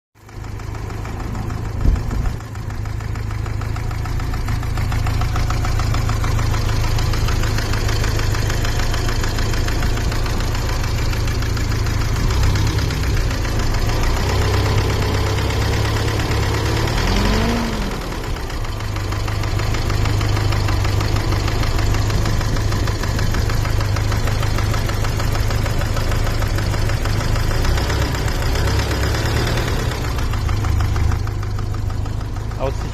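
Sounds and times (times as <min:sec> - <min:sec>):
car engine idling with knock: 0:00.2 - 0:32.9.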